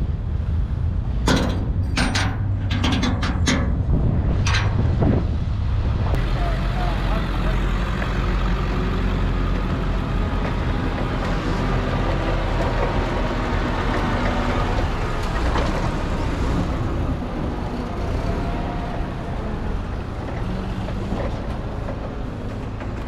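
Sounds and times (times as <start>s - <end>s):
forklift engine running: 0.0s - 23.0s.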